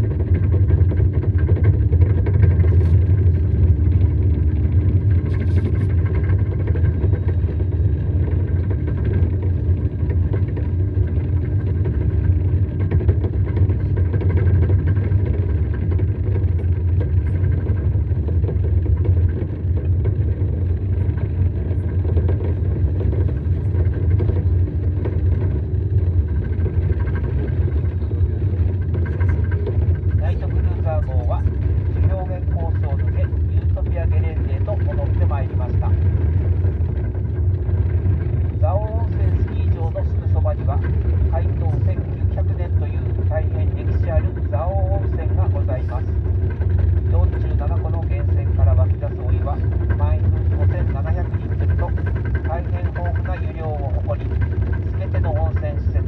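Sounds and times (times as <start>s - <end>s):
snowcat engine rumble: 0.0s - 56.0s.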